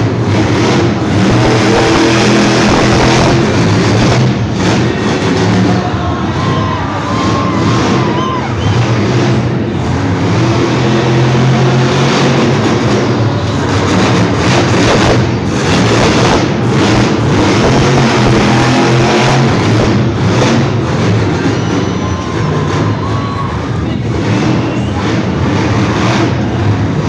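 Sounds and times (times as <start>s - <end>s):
monster truck engine roaring: 0.0s - 27.0s.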